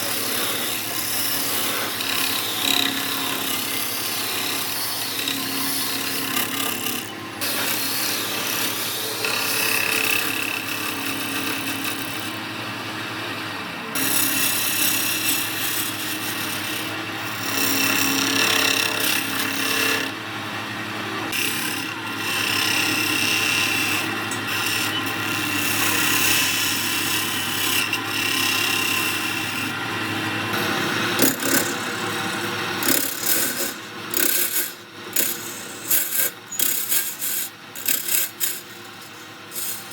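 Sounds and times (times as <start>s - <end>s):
lathe tool scraping wood: 0.0s - 13.4s, 14.0s - 39.9s
wood lathe motor hum: 0.0s - 39.9s.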